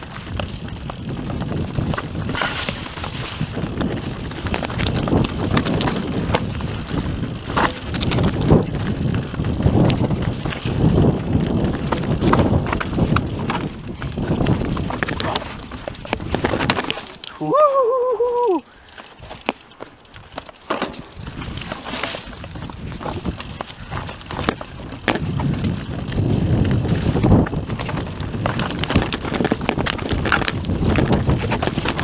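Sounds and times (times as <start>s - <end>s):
bike clattering over rocks: 0.0s - 17.4s, 18.8s - 32.0s
tyres crunching over loose stones: 0.0s - 17.4s, 18.8s - 32.0s
wind buffeting microphone: 0.0s - 18.6s, 21.1s - 32.0s.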